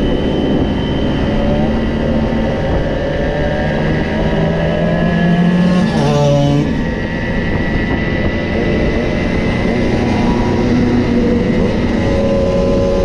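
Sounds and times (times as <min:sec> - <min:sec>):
two-stroke moped engines: 0:00.0 - 0:07.1, 0:08.1 - 0:13.0.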